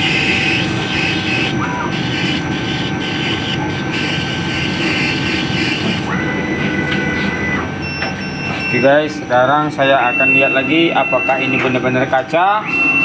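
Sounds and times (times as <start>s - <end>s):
laser cutter rushing noise: 0.0s - 13.0s.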